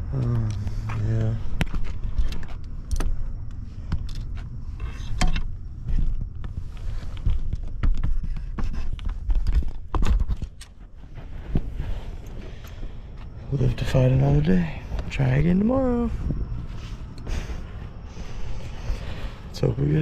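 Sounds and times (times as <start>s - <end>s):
low rumble of handling noise: 0.0s - 20.0s.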